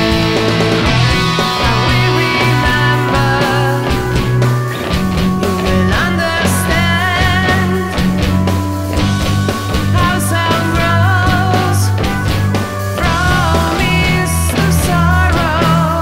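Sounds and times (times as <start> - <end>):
rock music with guitar and bass: 0.0 - 16.0.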